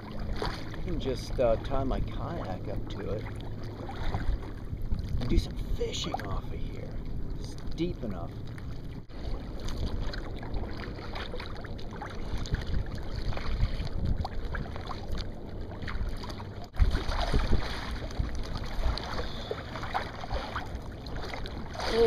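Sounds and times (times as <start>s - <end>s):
wind buffeting microphone: 0.0s - 15.3s, 15.9s - 22.0s
water sloshing around kayak: 0.0s - 22.0s.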